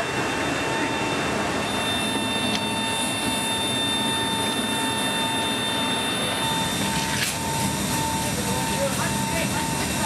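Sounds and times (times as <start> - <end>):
aircraft machinery drone: 0.0 - 10.0
high multi-tone whine: 0.0 - 10.0.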